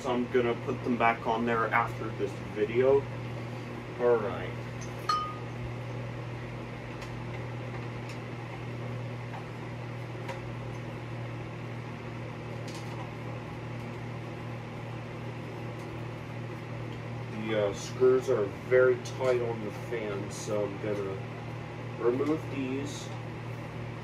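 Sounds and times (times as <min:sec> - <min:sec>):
steady low room hum: 0:00.0 - 0:24.0.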